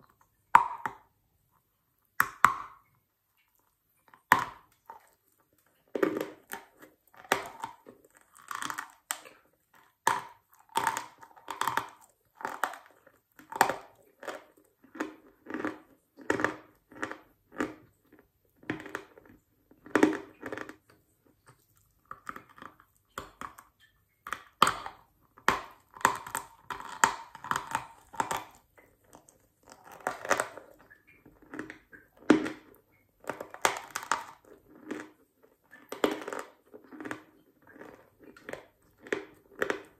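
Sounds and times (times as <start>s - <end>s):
dry chewing crunches: 3.6s - 39.9s.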